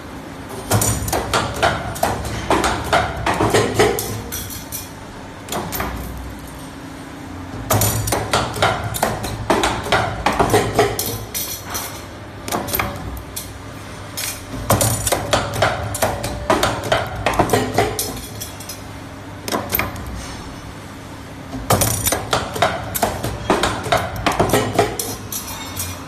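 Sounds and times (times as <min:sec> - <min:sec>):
machine low hum: 0:00.0 - 0:26.0
machine metallic clanks and clicks: 0:00.5 - 0:06.8, 0:07.5 - 0:20.7, 0:21.5 - 0:26.0.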